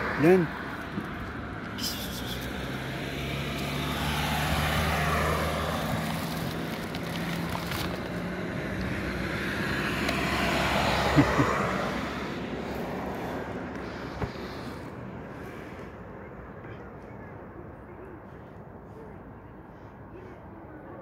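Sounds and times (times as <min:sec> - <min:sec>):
passing vehicle engine hum: 0:00.0 - 0:21.0.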